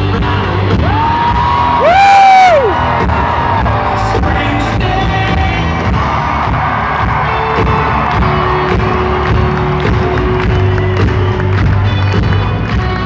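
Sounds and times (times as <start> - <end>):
drums beating: 0.0 - 13.0
live rock band playing: 0.0 - 13.0
crowd cheering: 0.7 - 13.0.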